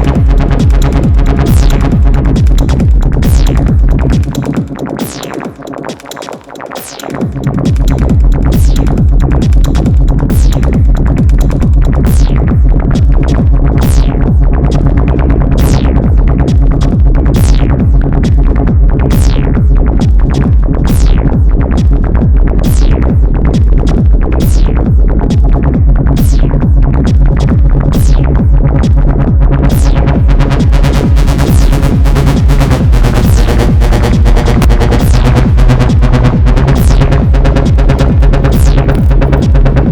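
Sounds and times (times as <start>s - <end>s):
acid techno groove: 0.0s - 39.9s.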